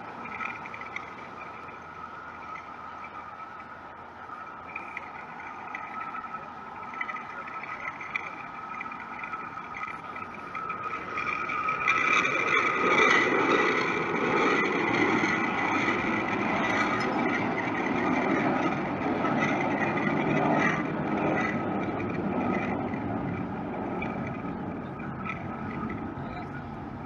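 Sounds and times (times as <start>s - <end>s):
jet engines whining and rushing: 0.0s - 27.0s.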